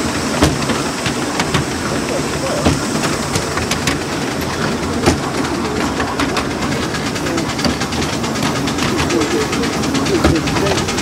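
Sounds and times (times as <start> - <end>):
wheels clicking over rail joints: 0.0 - 11.0
wheels rumbling on rail: 0.0 - 11.0.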